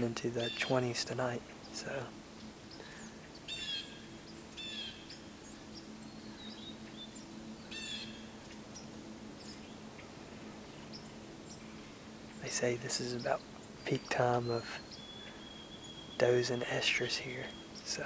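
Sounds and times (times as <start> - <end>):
bird calling: 0.0 - 18.0
faint bird chirps: 0.0 - 18.0
faint low hum: 0.0 - 18.0.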